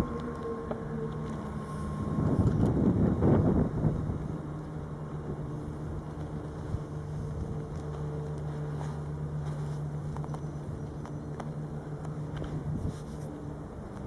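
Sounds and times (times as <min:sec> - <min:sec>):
train humming: 0:00.0 - 0:14.0.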